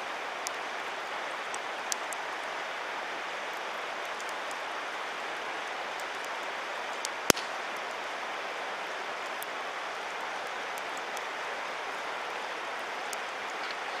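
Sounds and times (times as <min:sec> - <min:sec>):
campfire crackling and popping: 0:00.1 - 0:14.0.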